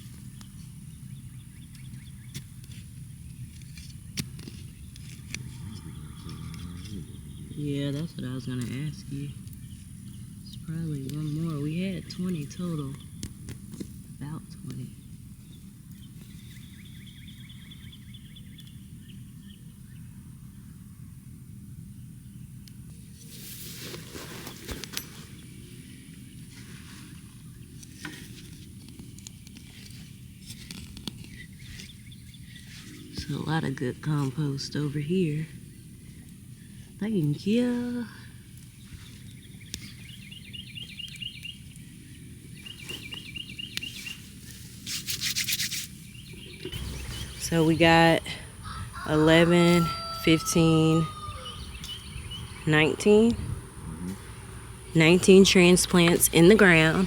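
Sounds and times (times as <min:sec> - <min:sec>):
songbird chirping: 0:00.0 - 0:20.8, 0:28.8 - 0:44.6, 0:45.3 - 0:57.0
low outdoor rumble: 0:00.0 - 0:44.9, 0:45.8 - 0:57.0.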